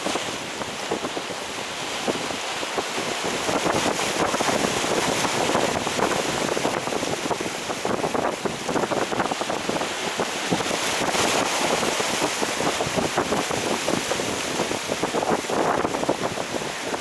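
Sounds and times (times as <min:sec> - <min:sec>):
seawater splashing: 0:00.0 - 0:17.0
wind buffeting microphone: 0:00.0 - 0:17.0.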